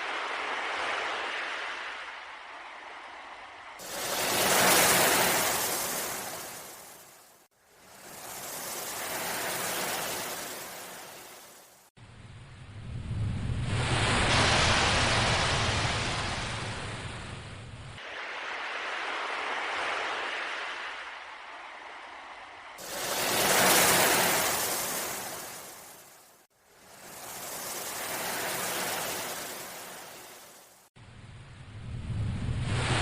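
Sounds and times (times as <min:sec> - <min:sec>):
ocean waves breaking: 0:00.0 - 0:11.9, 0:13.6 - 0:30.9.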